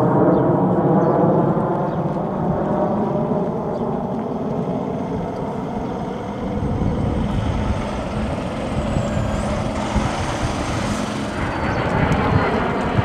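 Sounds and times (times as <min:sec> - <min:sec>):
jet engine low rumble: 0:00.0 - 0:13.0.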